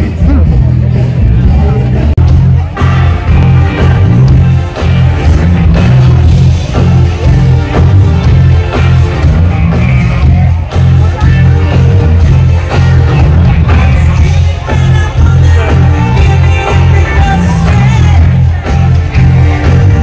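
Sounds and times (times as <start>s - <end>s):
heavy bass pulsing: 0.0s - 20.0s
live rock band over loudspeakers: 0.0s - 20.0s.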